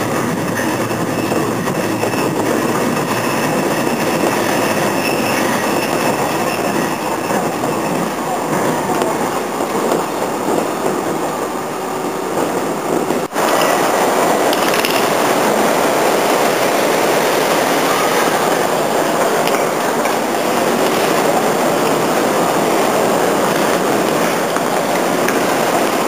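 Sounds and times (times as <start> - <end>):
railway station crowd din: 0.0 - 26.0.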